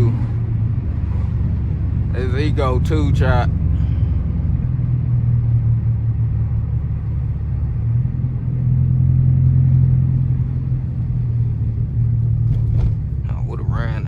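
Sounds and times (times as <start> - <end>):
car engine and exhaust droning: 0.0 - 14.0.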